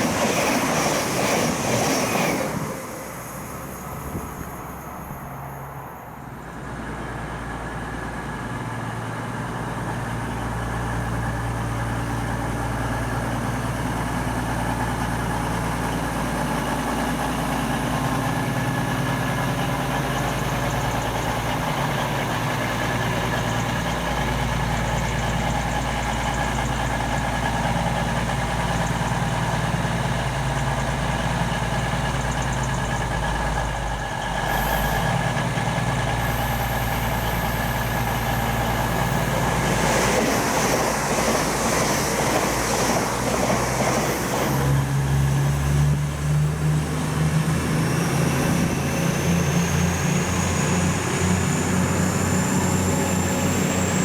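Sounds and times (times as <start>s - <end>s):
rush of train noise: 0.0s - 54.0s
train low drone: 0.0s - 54.0s.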